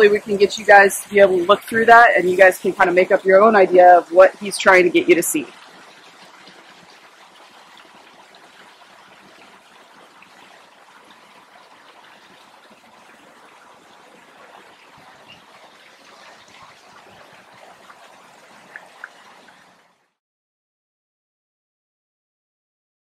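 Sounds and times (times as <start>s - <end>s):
creek trickling and splashing: 0.0s - 20.2s.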